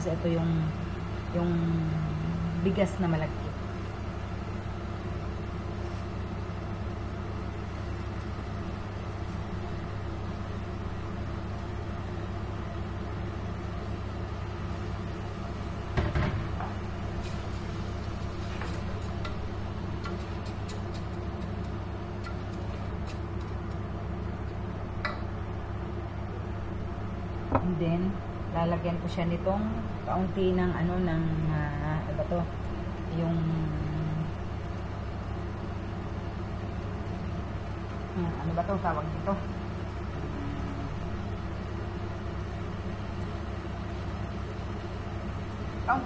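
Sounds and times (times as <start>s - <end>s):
kitchen appliance humming: 0.0s - 46.0s.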